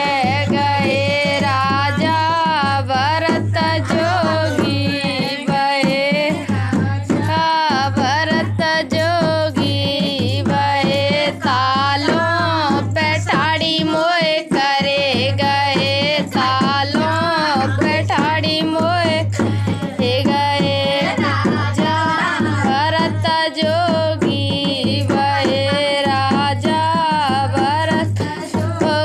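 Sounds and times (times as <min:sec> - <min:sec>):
dholak drumming: 0:00.0 - 0:29.0.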